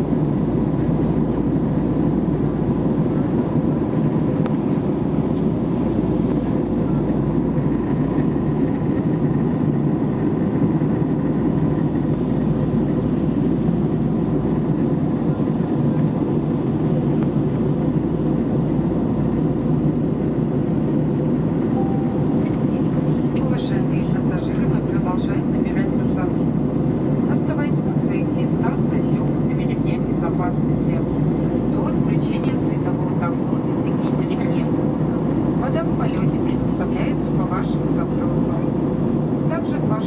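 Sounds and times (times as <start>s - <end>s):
airplane cabin drone: 0.0s - 40.0s.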